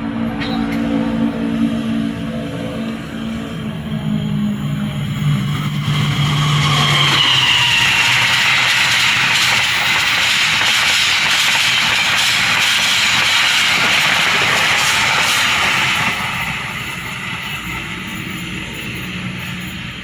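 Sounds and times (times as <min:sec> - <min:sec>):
train wheels rushing on rails: 0:00.0 - 0:20.0.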